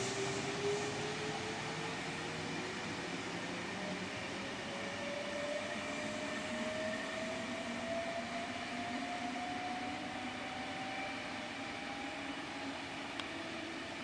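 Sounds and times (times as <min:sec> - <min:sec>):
train hum and rumble: 0:00.0 - 0:14.0.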